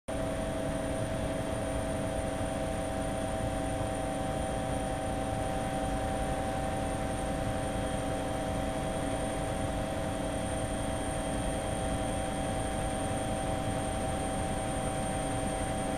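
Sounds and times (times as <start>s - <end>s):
aircraft engine drone: 0.1s - 15.9s.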